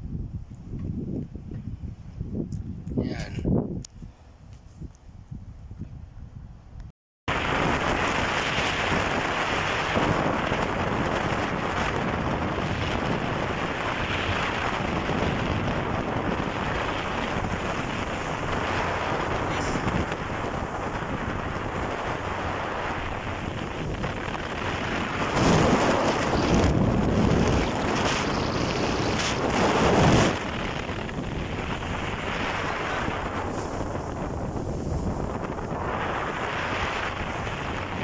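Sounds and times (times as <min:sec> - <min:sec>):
wind buffeting microphone: 0:00.0 - 0:38.0
rushing sea water: 0:07.3 - 0:38.0.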